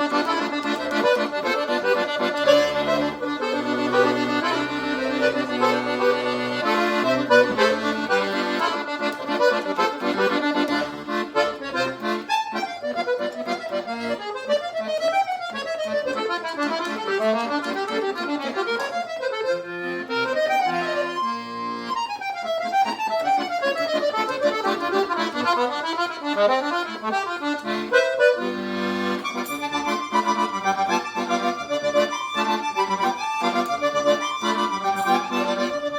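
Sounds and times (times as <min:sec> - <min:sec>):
accordion tune: 0:00.0 - 0:35.9.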